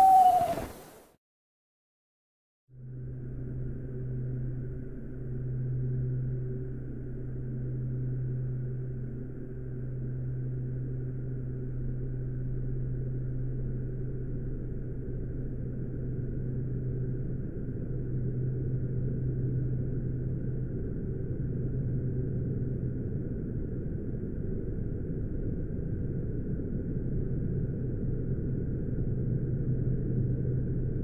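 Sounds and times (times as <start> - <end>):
low droning hum: 2.8 - 31.0.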